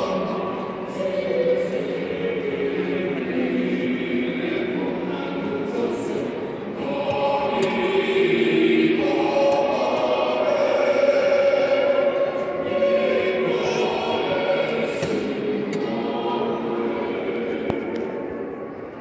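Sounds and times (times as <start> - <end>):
anthem over public address: 0.0 - 19.0
stadium crowd singing: 0.0 - 19.0.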